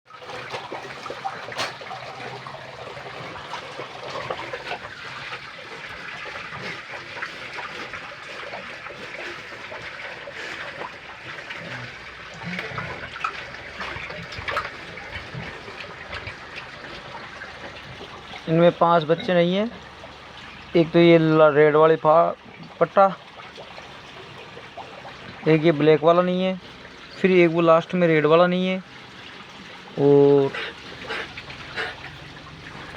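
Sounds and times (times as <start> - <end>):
pigs slurping wet feed: 0.1 - 32.9.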